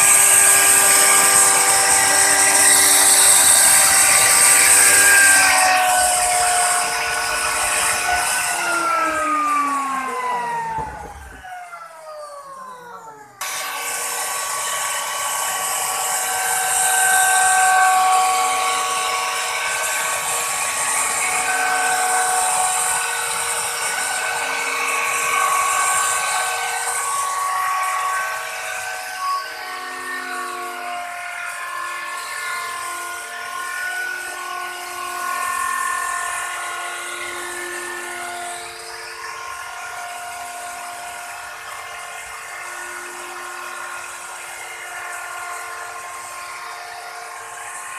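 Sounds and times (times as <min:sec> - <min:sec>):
router cutting wood: 0:00.0 - 0:47.9.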